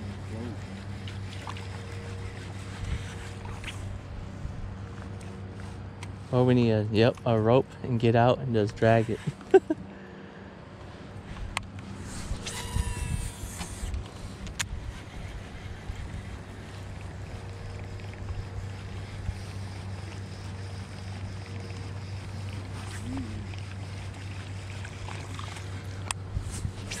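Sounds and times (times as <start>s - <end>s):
small motor humming: 0.0s - 6.3s, 8.7s - 10.0s, 11.1s - 27.0s.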